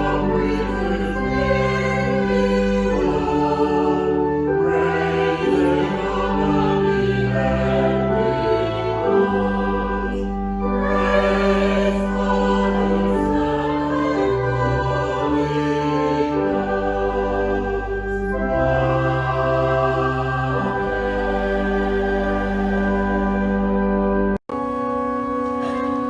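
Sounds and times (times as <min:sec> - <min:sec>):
choir singing held chords: 0:00.0 - 0:24.4.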